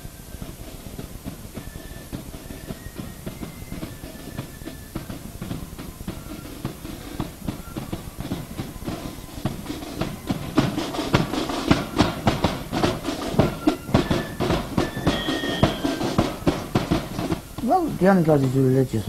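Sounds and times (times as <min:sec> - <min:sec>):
music with drum beat: 0:00.0 - 0:19.0
held high notes: 0:01.5 - 0:19.0.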